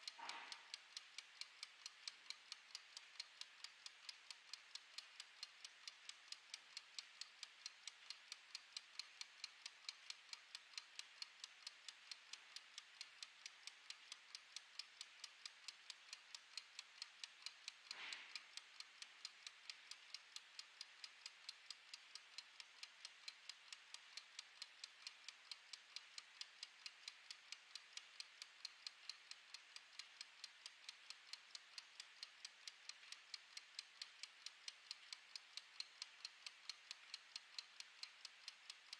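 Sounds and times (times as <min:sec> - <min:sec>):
clockwork kitchen timer ticking: 0:00.0 - 0:38.9.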